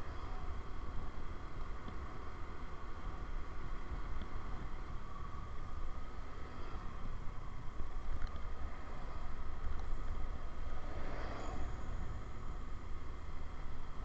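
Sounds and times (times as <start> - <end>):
faint steady whine: 0.0 - 14.0
road noise: 0.0 - 14.0
wind rumble on microphone: 0.0 - 14.0.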